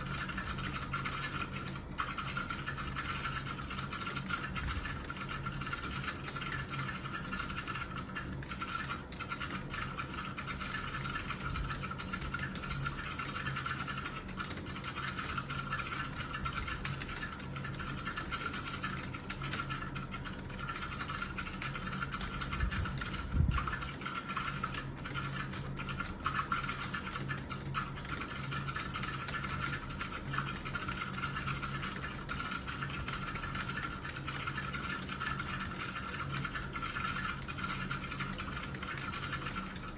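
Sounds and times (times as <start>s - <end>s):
fast typing on computer keyboard: 0.0s - 39.9s
steady low hum: 0.0s - 39.9s.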